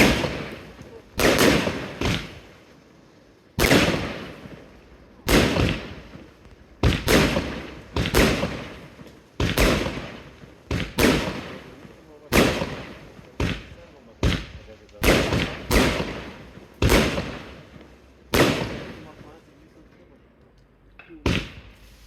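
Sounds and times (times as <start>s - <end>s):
fireworks bangs: 0.0s - 19.9s, 21.1s - 22.0s.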